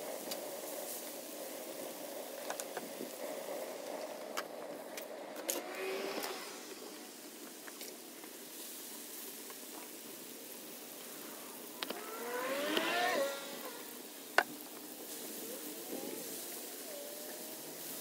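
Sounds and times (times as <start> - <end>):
vegetables sizzling on hot steel: 0.0 - 4.9, 5.5 - 18.0.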